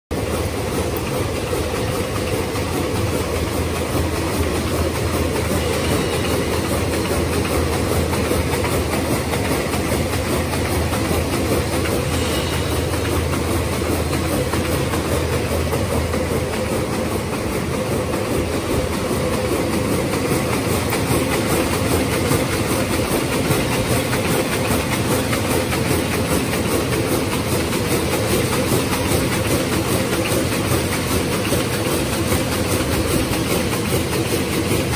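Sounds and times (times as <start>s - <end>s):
low machine hum: 0.2s - 34.9s
machine mechanical clatter: 0.2s - 34.9s.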